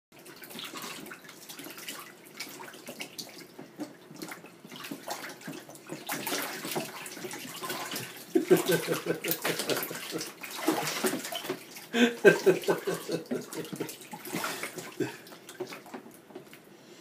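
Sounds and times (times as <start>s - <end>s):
water splashing in baby bathtub: 0.2s - 16.8s.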